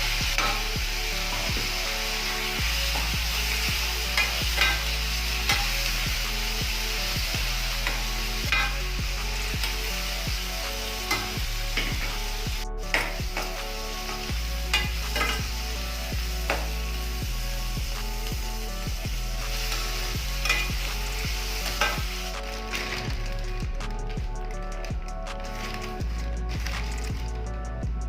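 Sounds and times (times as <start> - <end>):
food sizzling in a pan: 0.0 - 27.8.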